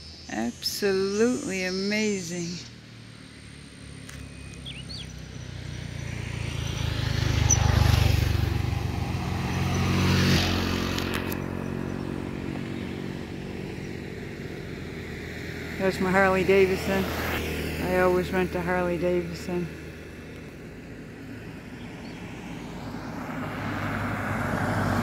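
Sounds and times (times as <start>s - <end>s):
motorbike engine passing: 2.2s - 25.0s.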